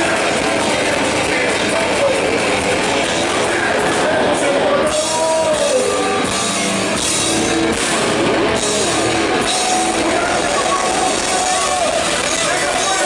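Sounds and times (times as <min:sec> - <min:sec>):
distorted electric guitars: 0:00.0 - 0:13.0
drums and cymbals: 0:00.0 - 0:13.0.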